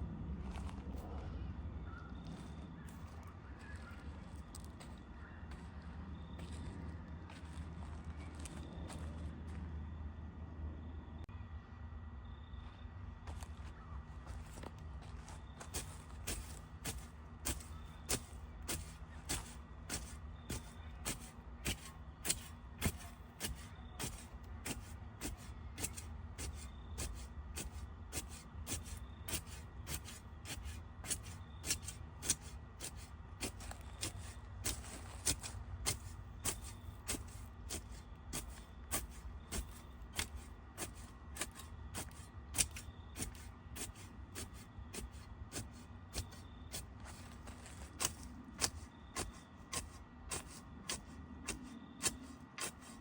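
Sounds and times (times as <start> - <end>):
low steady rumble: 0.0 - 53.0.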